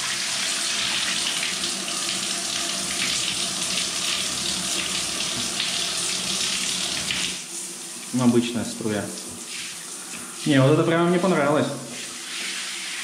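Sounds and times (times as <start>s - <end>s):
shower spray on bathtub: 0.0s - 13.0s.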